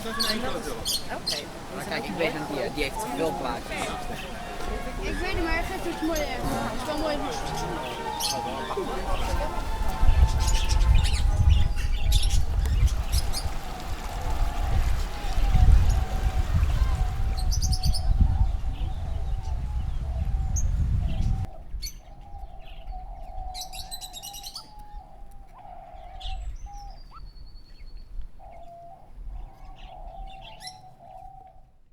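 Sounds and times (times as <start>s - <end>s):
bird cooing: 0.0s - 12.3s, 12.9s - 27.3s, 28.4s - 31.8s.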